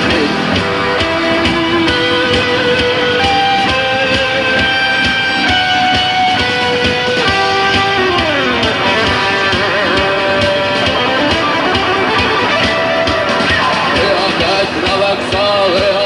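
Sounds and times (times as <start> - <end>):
lead electric guitar melody: 0.0 - 16.0
steady drum beat: 0.0 - 16.0
strummed guitar: 0.0 - 16.0.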